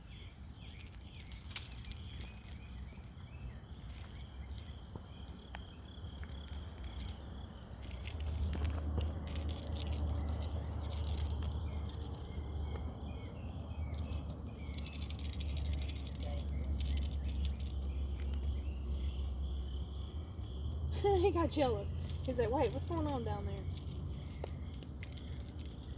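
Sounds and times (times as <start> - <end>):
crickets chirring: 0.0 - 25.9
light ticks and rustles: 0.5 - 13.0, 13.9 - 19.4, 21.2 - 25.9.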